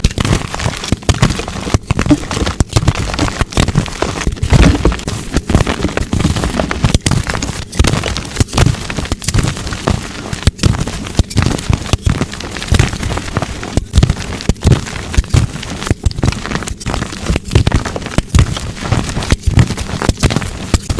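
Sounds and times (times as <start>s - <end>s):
chalk blocks snapping and crunching: 0.0s - 20.9s.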